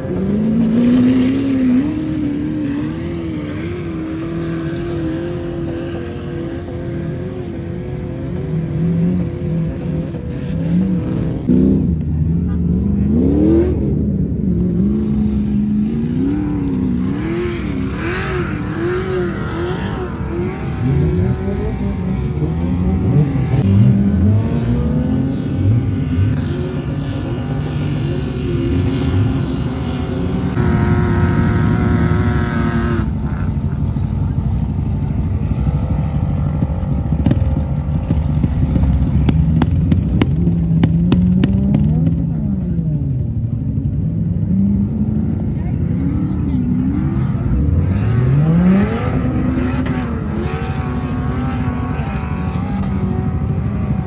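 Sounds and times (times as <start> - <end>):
car engines revving hard: 0.0 - 54.0
steady engine drone: 0.0 - 54.0.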